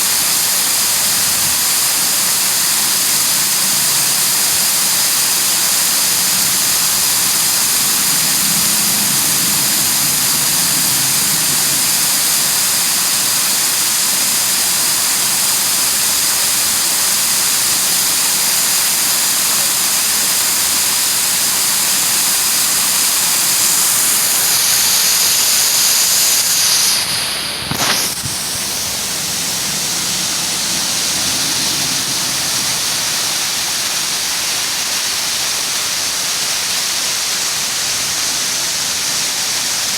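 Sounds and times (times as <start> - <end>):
water falling and splashing: 0.0 - 39.9.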